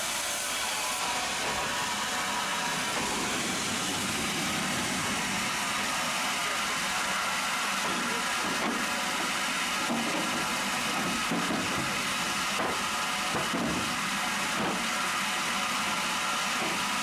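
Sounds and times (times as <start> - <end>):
machinery humming and hissing: 0.0 - 17.0.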